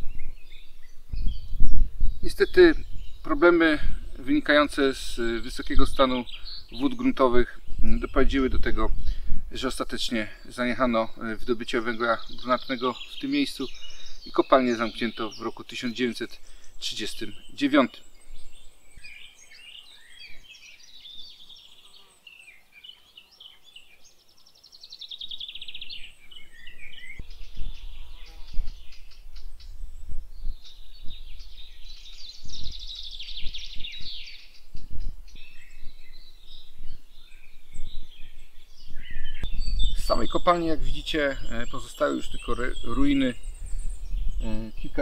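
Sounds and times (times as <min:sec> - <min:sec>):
birds chirping and trilling: 0:00.0 - 0:45.0.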